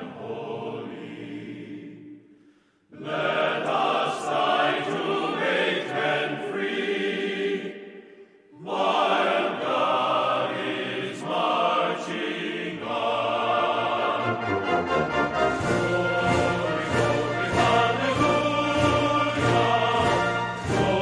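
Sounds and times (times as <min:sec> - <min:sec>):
choir chanting: 0:00.0 - 0:21.0.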